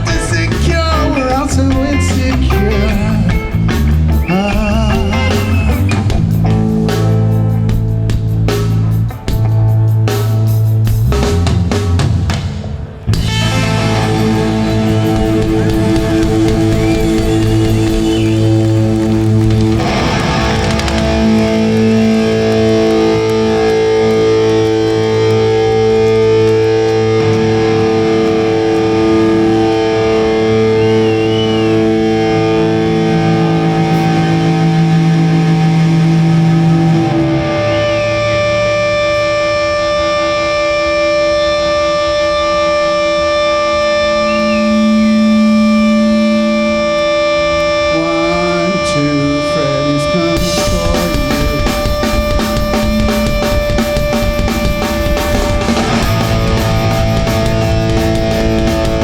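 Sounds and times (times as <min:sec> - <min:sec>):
distorted electric guitar ringing: 0:00.0 - 0:59.0.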